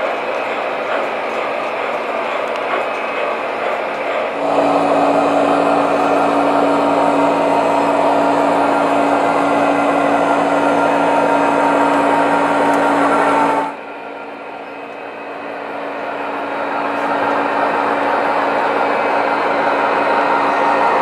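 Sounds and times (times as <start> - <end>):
model locomotive humming: 0.0 - 21.0.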